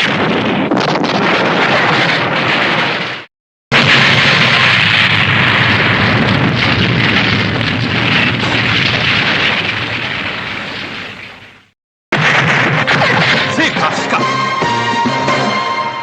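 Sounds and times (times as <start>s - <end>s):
crackling explosion: 0.0s - 14.3s.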